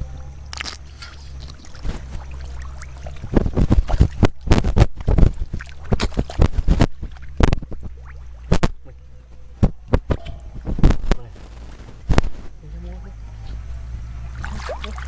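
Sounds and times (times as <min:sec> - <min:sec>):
water splashing and sloshing: 0:00.0 - 0:13.1, 0:14.0 - 0:15.0
low steady hum: 0:00.0 - 0:15.0.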